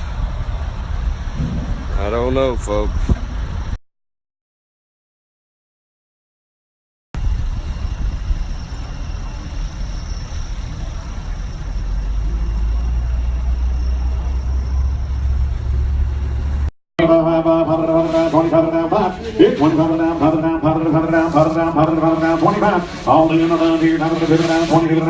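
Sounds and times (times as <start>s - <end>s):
motor vehicle rumbling: 0.0s - 3.8s, 7.2s - 25.0s.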